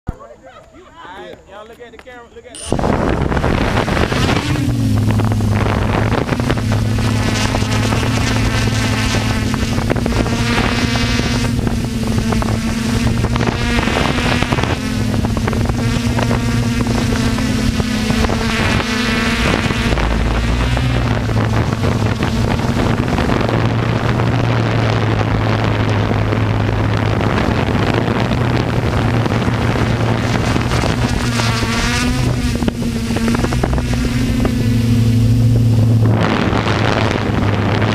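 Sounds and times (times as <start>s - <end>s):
electric motors and propellers buzzing: 2.6s - 37.9s
wind noise on microphone: 2.6s - 37.9s.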